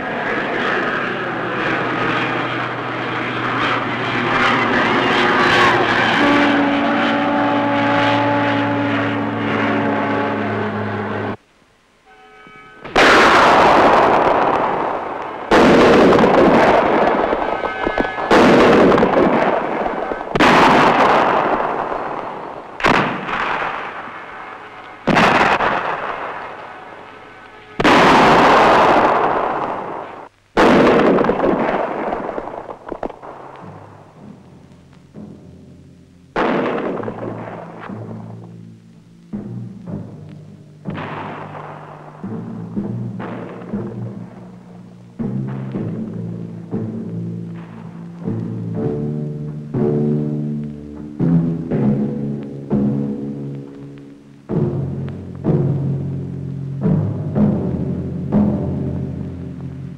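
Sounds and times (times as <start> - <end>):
heavy booms: 0.0 - 11.4, 12.9 - 59.9
airplane engines droning: 0.0 - 30.3, 32.6 - 59.9.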